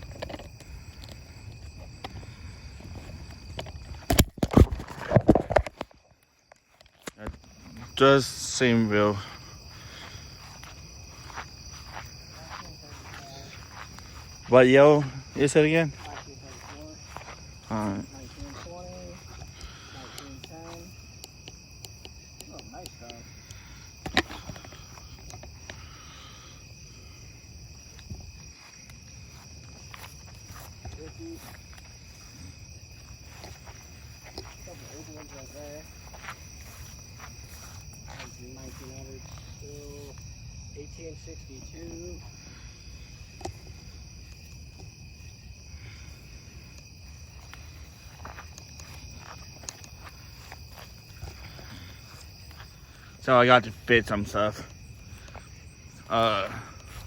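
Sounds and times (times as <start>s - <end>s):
night insects chorus: 0.0s - 57.0s.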